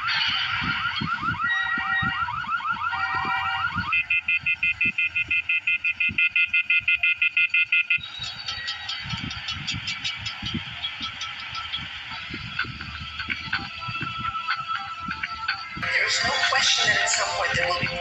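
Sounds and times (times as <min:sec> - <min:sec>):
car alarm: 0:00.0 - 0:18.0.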